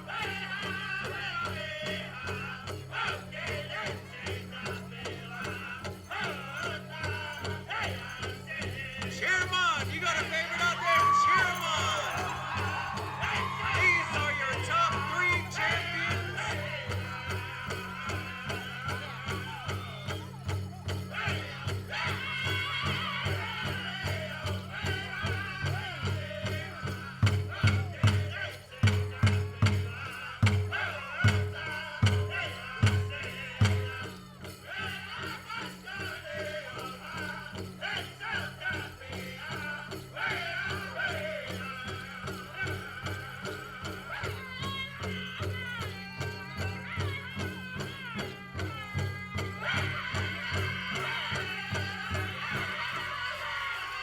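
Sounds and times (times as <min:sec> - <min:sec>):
group singing in high voices: 0:00.0 - 0:19.9, 0:21.1 - 0:54.0
fast beat on large drum: 0:00.0 - 0:53.4.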